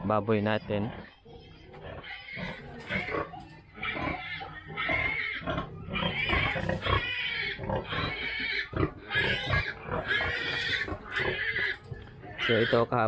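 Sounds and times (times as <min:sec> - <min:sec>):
pigs calling: 0:00.0 - 0:13.0.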